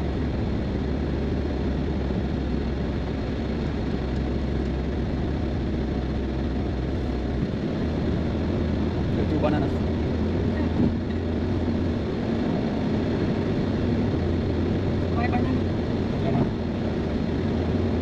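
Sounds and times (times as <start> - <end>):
vehicle low rumble: 0.0 - 18.0.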